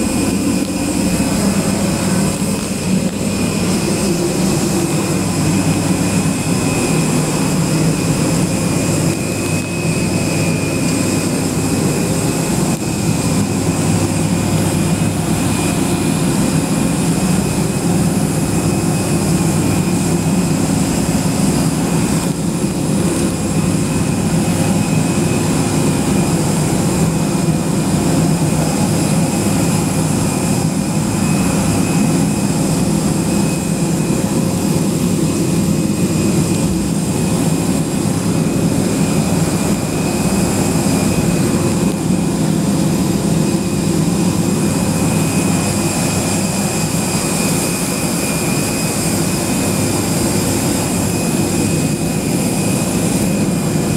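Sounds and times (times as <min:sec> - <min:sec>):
jet turbine rumble and whine: 0:00.0 - 0:53.9.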